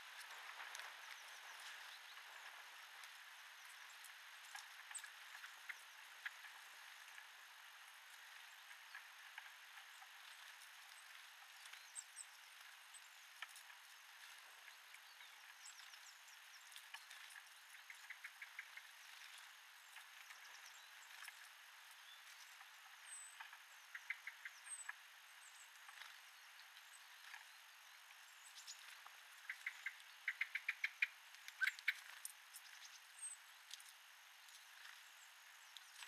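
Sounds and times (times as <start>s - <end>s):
small birds chirping: 0.0s - 36.0s
steady faint hiss: 0.0s - 36.0s.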